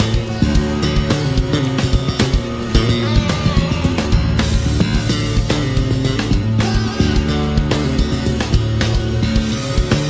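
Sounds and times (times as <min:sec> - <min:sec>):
drums: 0:00.0 - 0:10.0
electric bass: 0:00.0 - 0:10.0
keyboards: 0:00.0 - 0:10.0.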